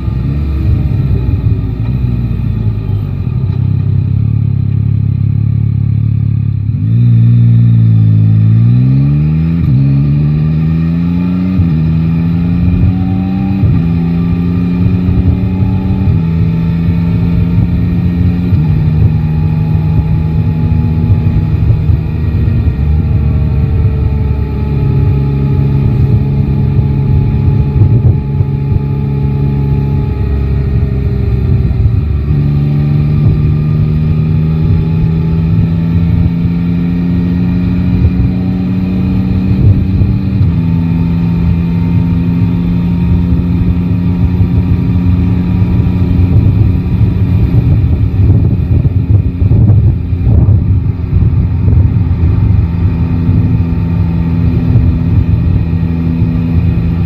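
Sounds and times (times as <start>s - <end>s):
wind rumble on microphone: 0.0s - 4.0s, 6.6s - 57.0s
motorcycle engine running: 0.0s - 57.0s.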